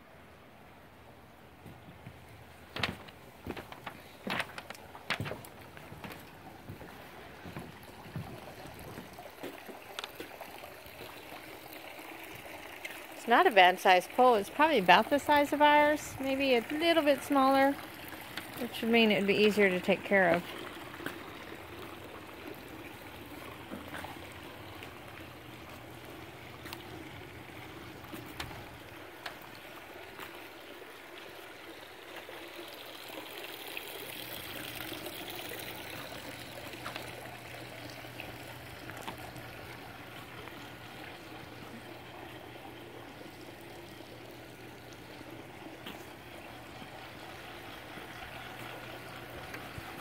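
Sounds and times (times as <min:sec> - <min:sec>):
low steady hum: 0:00.0 - 0:50.0
water trickling: 0:00.0 - 0:50.0.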